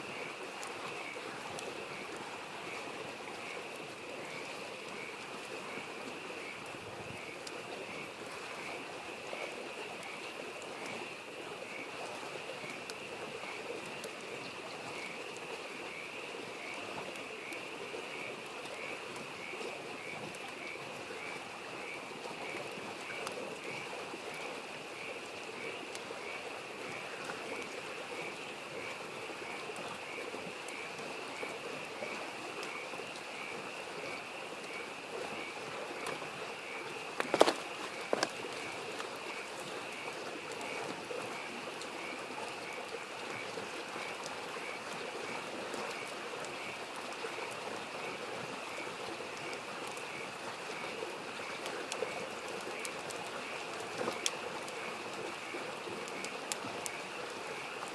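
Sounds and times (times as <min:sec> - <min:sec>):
mountain stream rushing: 0:00.0 - 0:57.9
campfire crackling and popping: 0:00.1 - 0:57.9
frogs calling in chorus: 0:00.1 - 0:57.9.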